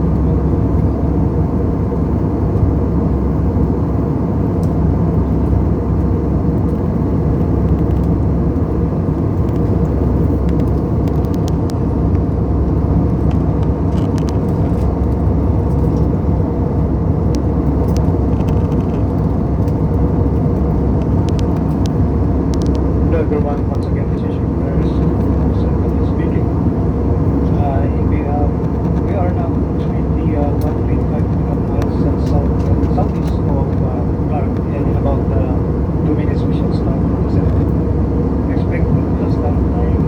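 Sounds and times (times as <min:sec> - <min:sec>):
airliner low rumble: 0:00.0 - 0:40.0.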